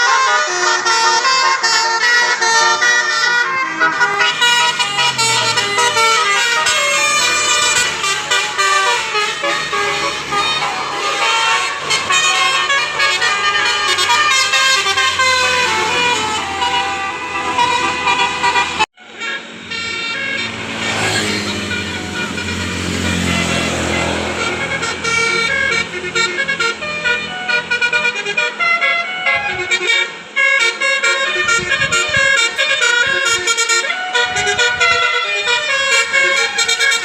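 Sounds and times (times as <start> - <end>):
engine and road rumble: 0.0 - 37.0
multi-tone bus horns playing melody: 0.0 - 37.0.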